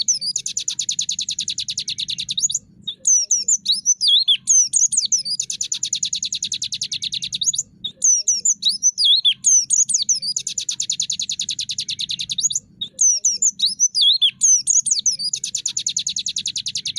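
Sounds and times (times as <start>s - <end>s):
bird singing whistles and trill: 0.0s - 16.9s.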